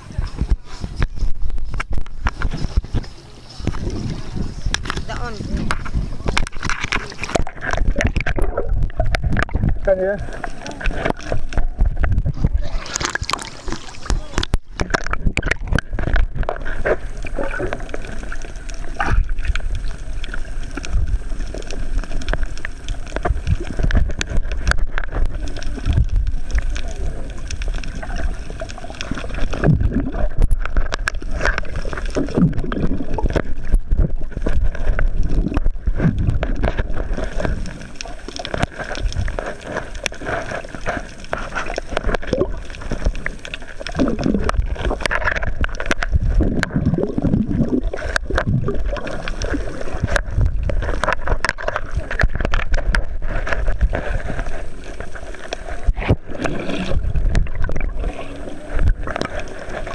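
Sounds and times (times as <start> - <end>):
low underwater rumble: 0.0 - 59.9
muffled water sloshing: 0.0 - 59.9.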